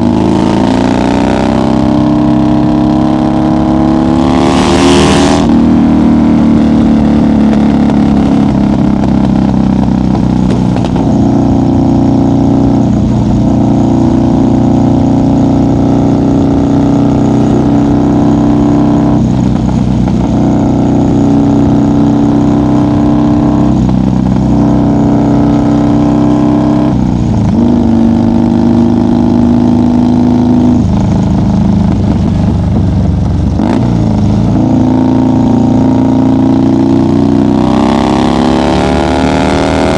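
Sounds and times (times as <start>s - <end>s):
motorcycle engine at highway speed: 0.0s - 39.9s.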